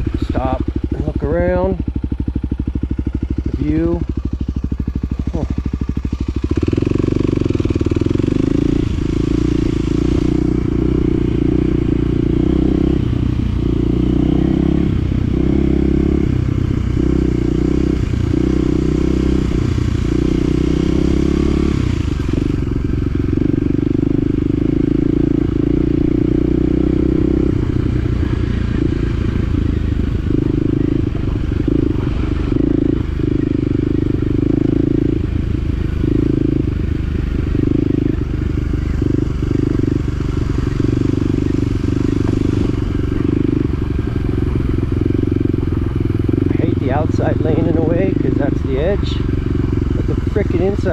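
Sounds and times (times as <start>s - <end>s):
utility vehicle engine running: 0.0s - 50.9s.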